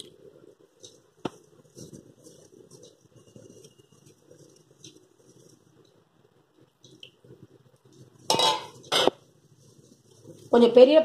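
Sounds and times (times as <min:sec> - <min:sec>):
fingers rustling flour in bowl: 0:00.0 - 0:11.0.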